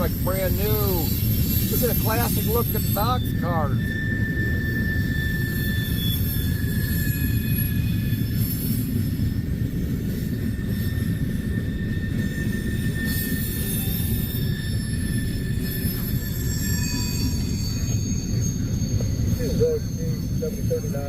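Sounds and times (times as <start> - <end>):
high wheel squeal: 0.0 - 21.0
train wheels rumbling on rail: 0.0 - 21.0.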